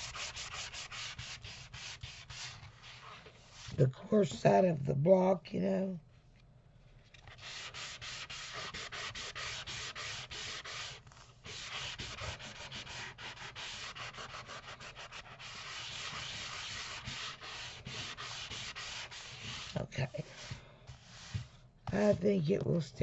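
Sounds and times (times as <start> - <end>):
buffer block sanding plastic: 0.0 - 3.8, 7.3 - 22.2.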